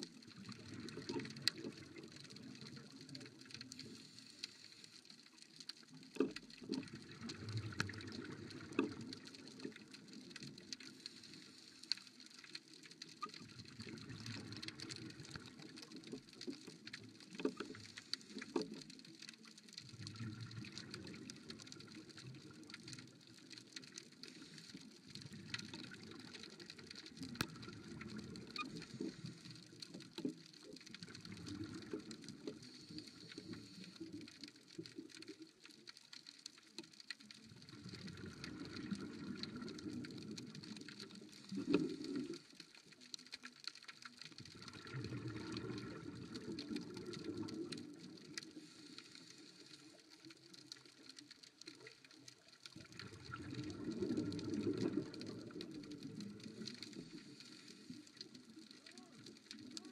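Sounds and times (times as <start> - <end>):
underwater clicks and crackles: 0.0 - 59.9.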